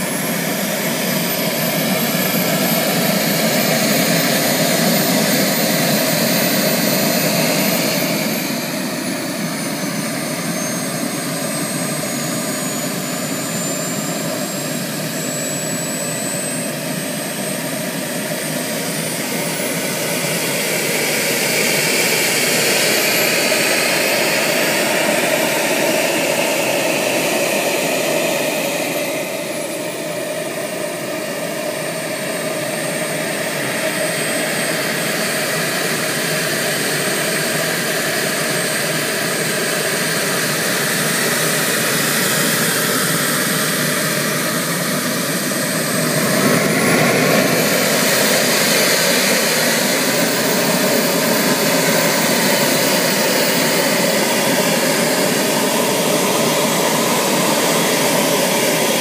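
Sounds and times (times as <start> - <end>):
jet turbines whining: 0.0 - 59.0.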